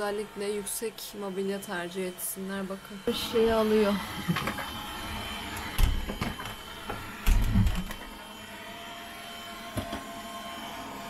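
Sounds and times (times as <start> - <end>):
robot vacuum cleaner whirring: 0.0 - 11.0.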